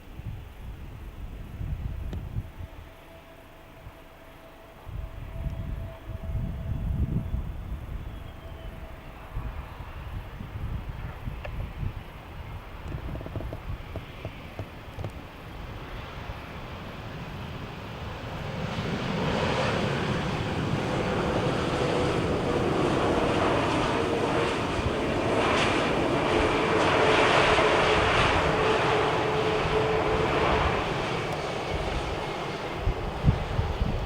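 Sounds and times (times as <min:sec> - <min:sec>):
jet engines roaring past: 0:00.2 - 0:34.0.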